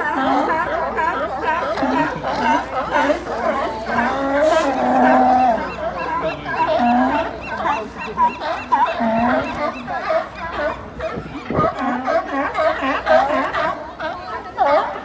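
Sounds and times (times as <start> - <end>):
sea lions barking: 0.0 - 15.0.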